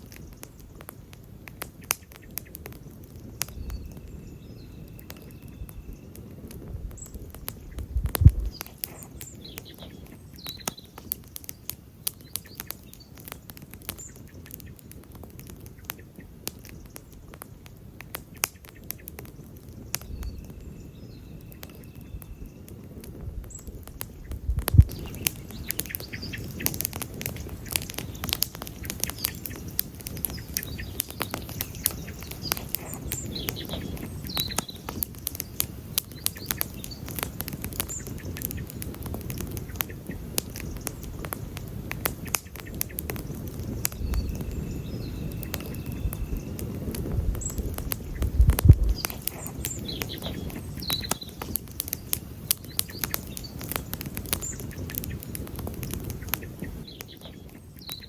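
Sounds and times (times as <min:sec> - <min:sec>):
birds chirping faintly: 0:00.0 - 0:58.0
campfire crackling and popping: 0:00.0 - 0:58.0
low rush of flames: 0:00.0 - 0:58.0.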